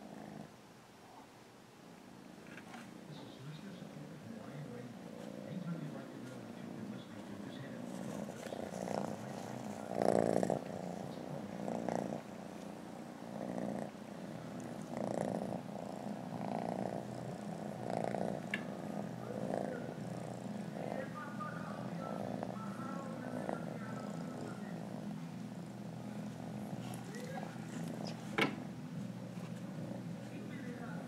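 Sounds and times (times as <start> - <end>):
kitten purring: 0.0 - 1.2, 2.4 - 31.0.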